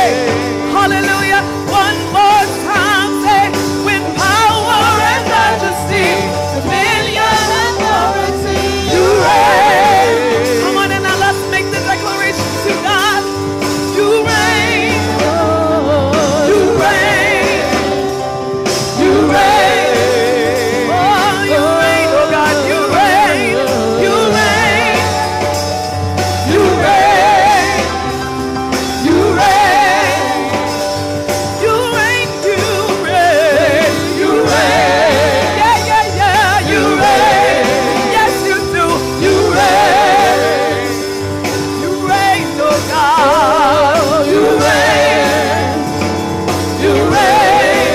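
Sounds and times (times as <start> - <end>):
electric keyboard chords and bass: 0.0 - 47.9
woman singing gospel: 0.0 - 47.9.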